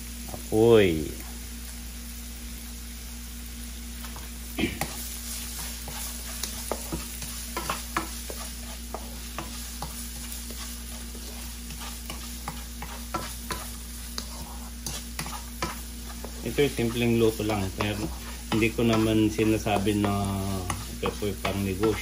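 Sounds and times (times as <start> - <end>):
onion and garlic sizzling in oil: 0.0 - 22.0
wooden spatula scraping a pan: 4.0 - 22.0.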